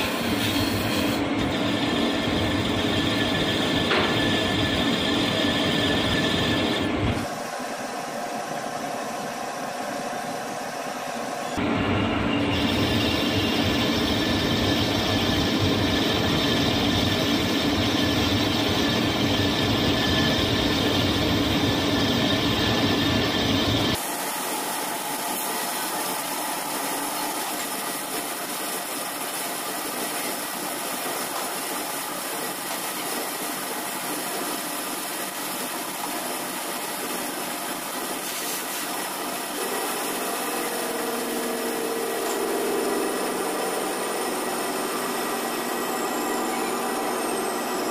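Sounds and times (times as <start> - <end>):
lathe machining metal: 0.0 - 47.9.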